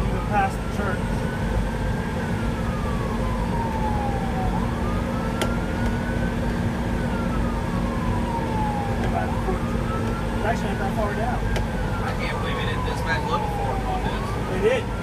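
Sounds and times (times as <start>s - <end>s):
road noise: 0.0s - 15.0s
siren wailing: 0.0s - 15.0s
truck engine drone: 0.0s - 15.0s.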